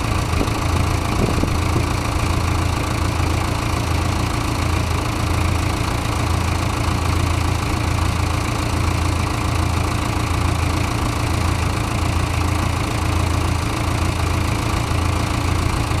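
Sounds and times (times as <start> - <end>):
boom lift engine humming: 0.0 - 16.0.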